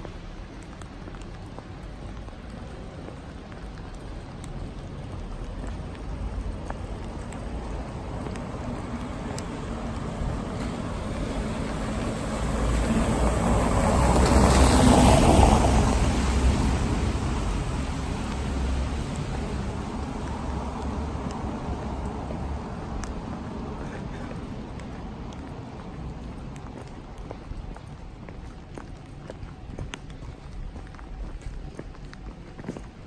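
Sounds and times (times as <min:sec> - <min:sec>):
vehicle passing on wet cobbles: 0:00.0 - 0:33.0.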